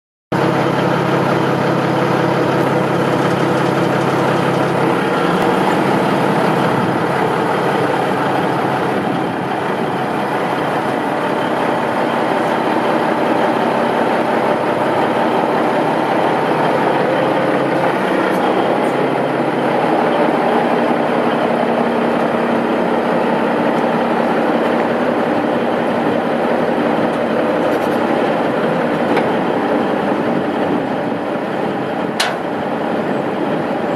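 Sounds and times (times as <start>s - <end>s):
diesel truck engine idling: 0.4s - 33.9s.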